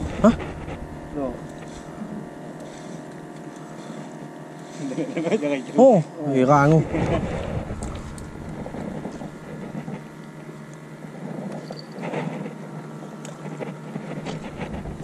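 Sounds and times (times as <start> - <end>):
faint even hum: 0.0 - 15.0
noisy haze: 0.0 - 15.0.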